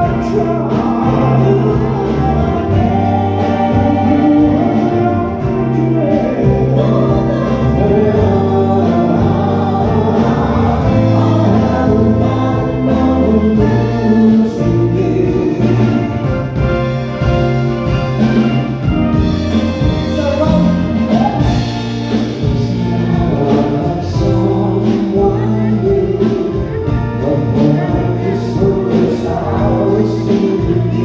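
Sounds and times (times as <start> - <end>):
man and woman singing in harmony: 0.0 - 16.8, 19.6 - 31.0
bass guitar: 0.0 - 31.0
drums: 0.0 - 31.0.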